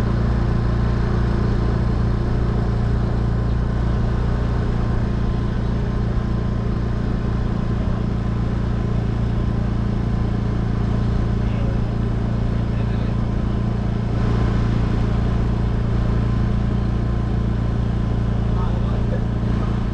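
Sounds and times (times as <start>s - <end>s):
road noise: 0.0s - 19.9s
vehicle engine drone: 0.0s - 19.9s.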